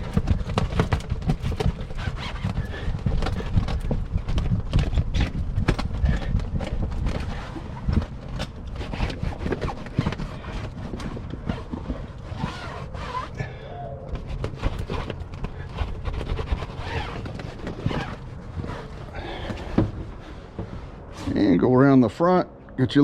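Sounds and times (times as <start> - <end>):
knocks and handling clatter: 0.0 - 13.4, 14.0 - 21.4
cloth rubbing on vinyl window: 0.0 - 21.7.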